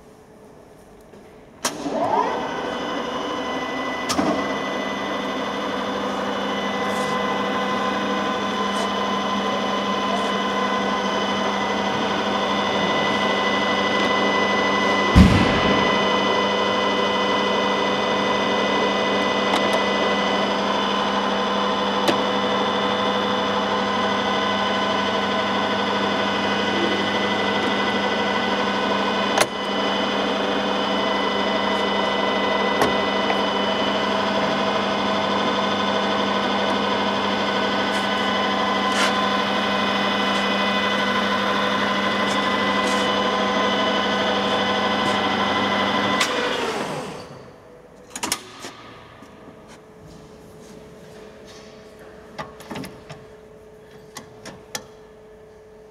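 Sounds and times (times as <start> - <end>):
lathe mechanical whine: 1.8 - 48.6.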